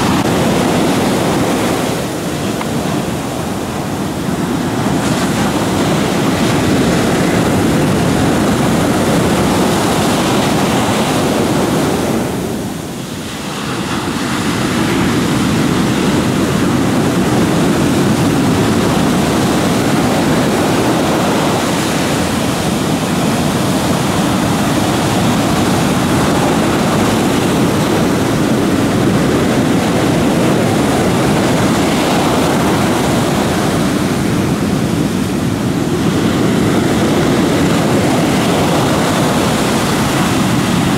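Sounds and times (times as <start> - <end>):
heavy surf breaking: 0.0 - 40.9
waves washing against boat hull: 0.0 - 40.9.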